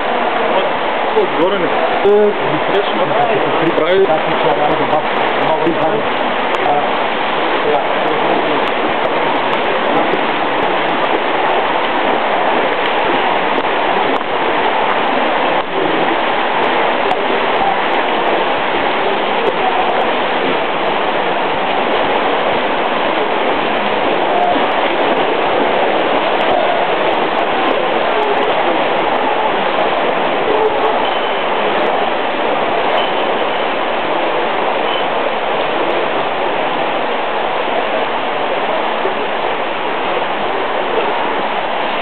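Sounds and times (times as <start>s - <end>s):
swimming pool water noise: 0.0s - 42.0s.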